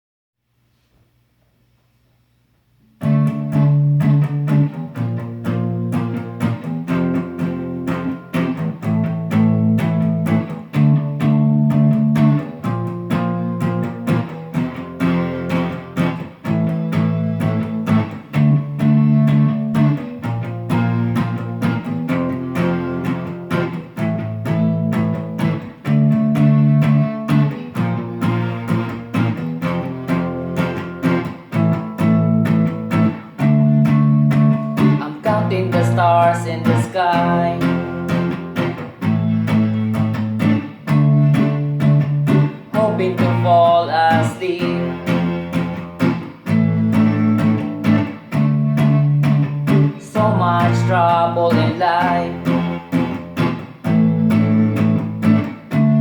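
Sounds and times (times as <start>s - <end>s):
plucked guitar notes: 2.9s - 56.0s.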